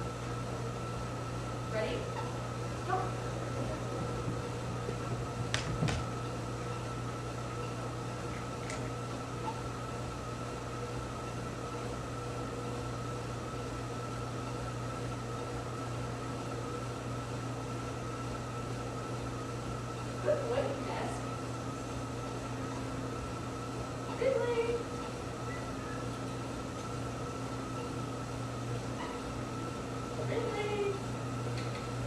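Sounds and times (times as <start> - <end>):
mechanical room hum: 0.0 - 32.0.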